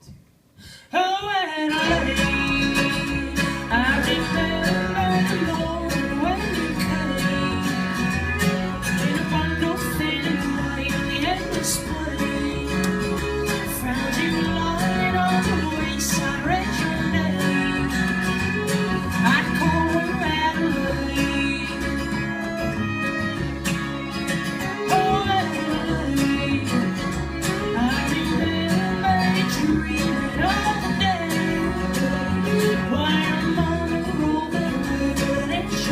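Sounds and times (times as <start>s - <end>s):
plucked guitar: 1.2s - 35.9s
steady bass: 1.8s - 35.9s.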